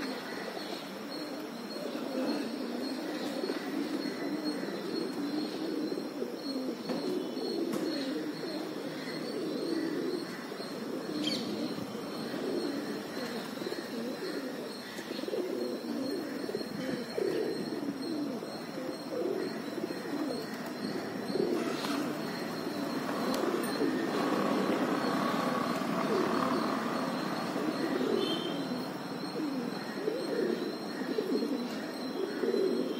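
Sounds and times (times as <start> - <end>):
pigeons cooing: 0.0 - 32.9.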